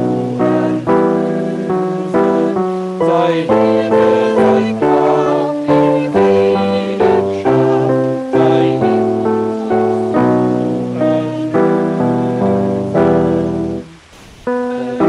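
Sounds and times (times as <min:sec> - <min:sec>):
solo voices singing a hymn: 0:00.0 - 0:15.0.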